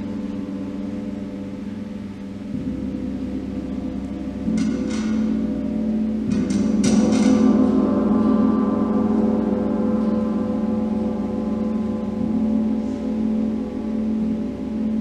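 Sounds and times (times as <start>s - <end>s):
gong ringing: 0.0s - 15.0s.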